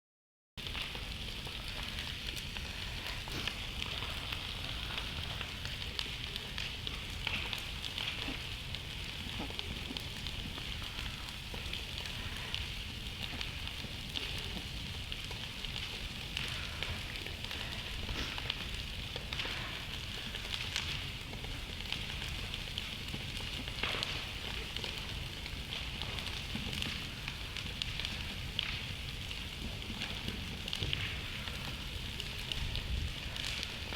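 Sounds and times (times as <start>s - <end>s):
burning wood crackling and popping: 0.6s - 33.9s
campfire hissing: 0.6s - 33.9s.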